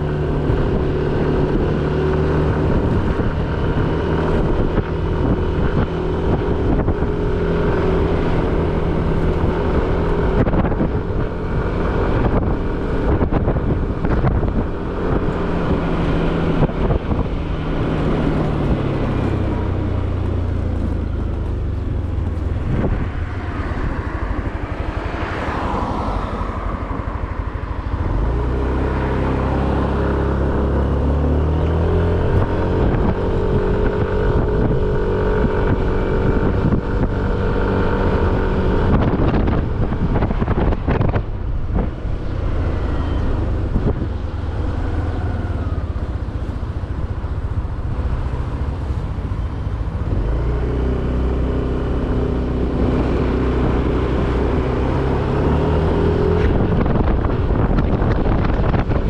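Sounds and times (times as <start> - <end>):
motorcycle engine running: 0.0 - 25.4, 26.6 - 59.0
wind noise on microphone: 0.0 - 59.0.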